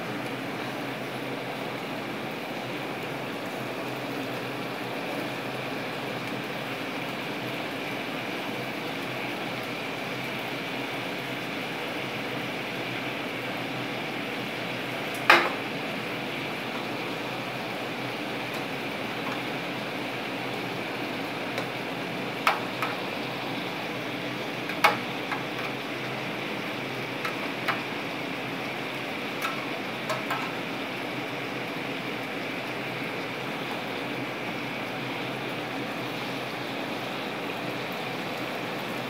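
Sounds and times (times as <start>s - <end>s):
fish sizzling in frying pan: 0.0s - 39.0s.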